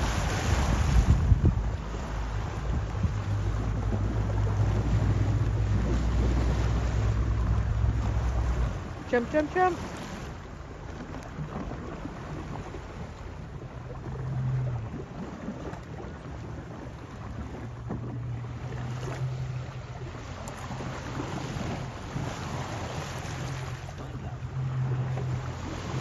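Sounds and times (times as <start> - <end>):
boat engine idling: 0.0 - 26.0
sea wash: 0.0 - 26.0
wind buffeting microphone: 0.0 - 26.0.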